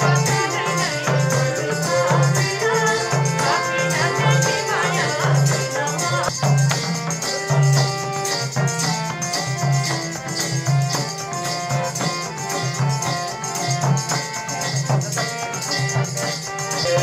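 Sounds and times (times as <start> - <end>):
folk dance music: 0.0 - 17.0.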